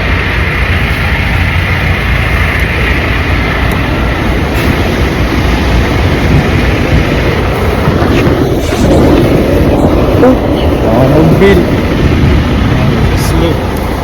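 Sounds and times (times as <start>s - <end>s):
vehicle rumbling: 0.0s - 14.0s.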